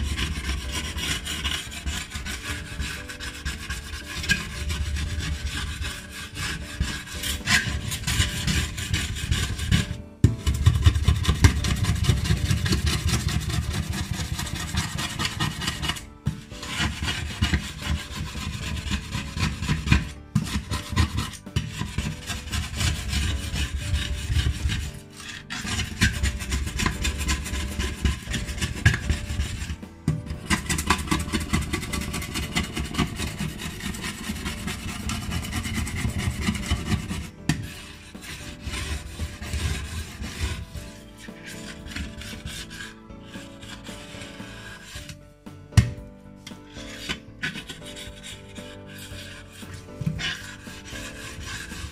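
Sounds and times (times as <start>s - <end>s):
scrubbing on glass hob: 0.0s - 46.0s, 46.6s - 51.9s.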